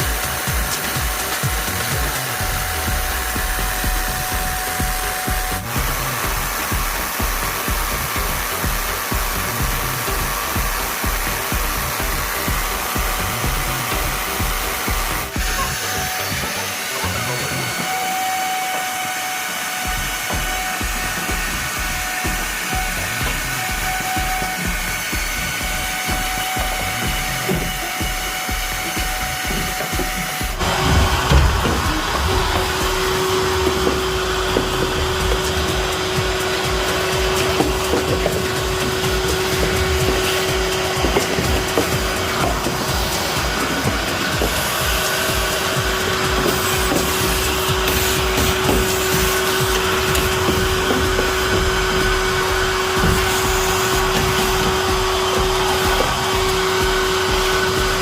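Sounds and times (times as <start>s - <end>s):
power tool motor whining: 0.0s - 58.0s
steady hum: 0.0s - 58.0s.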